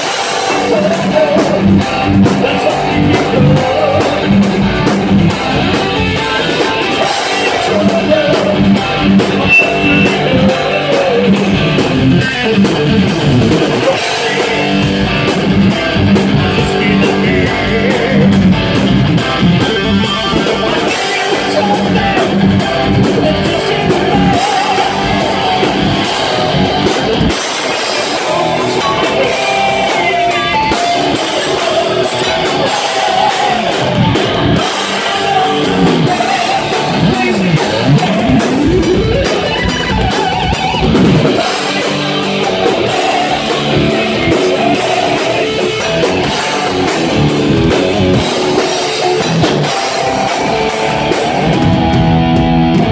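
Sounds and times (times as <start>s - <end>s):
bass guitar: 0.0s - 52.9s
distorted electric guitar bends: 0.0s - 52.9s
drums: 0.0s - 52.9s.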